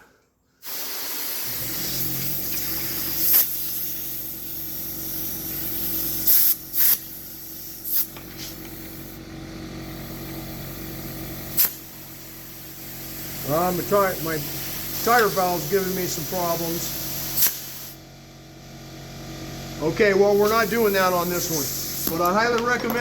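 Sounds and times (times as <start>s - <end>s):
compressor hum: 0.0s - 23.0s
short sharp air blasts: 0.6s - 9.2s, 9.8s - 18.7s, 20.3s - 22.3s
compressed air hissing: 0.6s - 18.1s, 20.0s - 22.3s.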